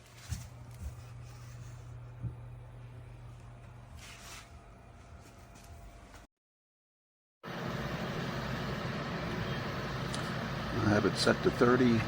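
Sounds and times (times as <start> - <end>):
dehumidifier humming: 0.0 - 6.3, 7.5 - 12.0.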